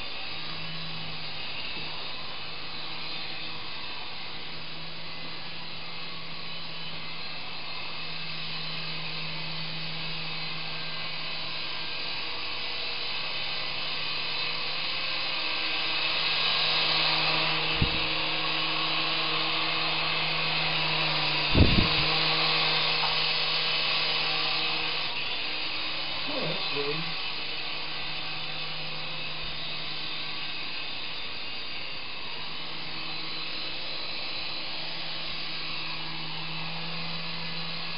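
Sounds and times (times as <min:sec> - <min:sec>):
toy helicopter rotor whir: 0:00.0 - 0:37.9.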